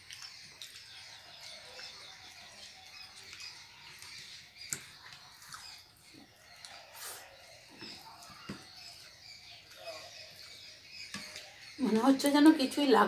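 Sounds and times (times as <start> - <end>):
people chewing food: 0.0 - 12.7.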